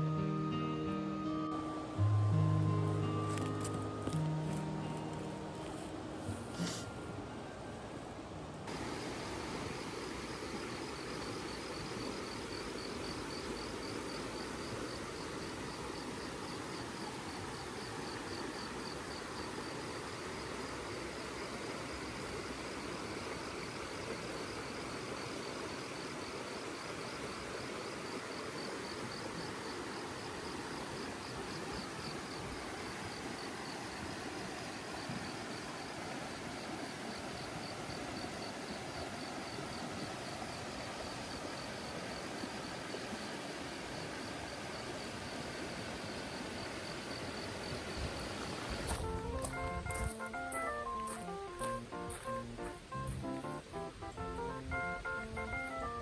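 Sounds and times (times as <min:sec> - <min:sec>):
crickets trilling: 0:08.6 - 0:56.0.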